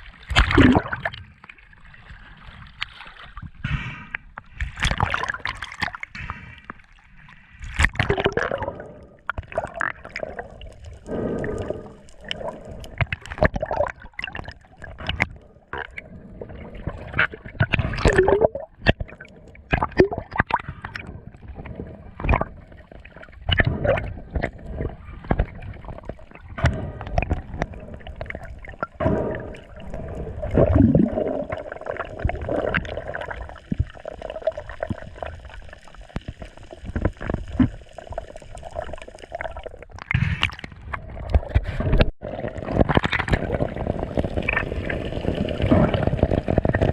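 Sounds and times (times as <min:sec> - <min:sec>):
water splashes: 0:00.0 - 0:15.9, 0:16.5 - 0:46.9
sea water sloshing and gurgling: 0:00.0 - 0:46.9.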